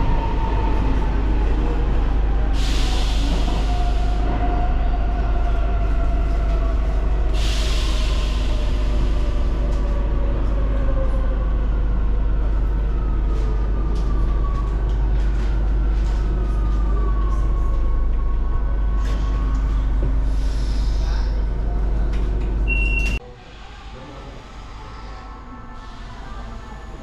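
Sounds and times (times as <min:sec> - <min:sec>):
train rumbling in tunnel: 0:00.0 - 0:27.0.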